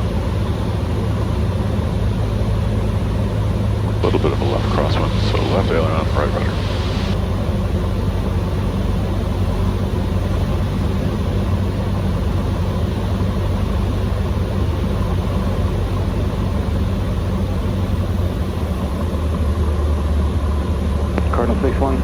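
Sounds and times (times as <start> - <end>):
airplane propeller engine droning: 0.0 - 22.0.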